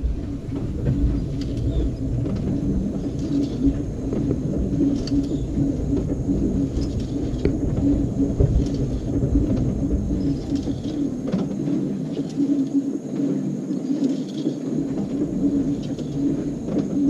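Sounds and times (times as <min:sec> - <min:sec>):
washing machine motor rumble: 0:00.0 - 0:17.0.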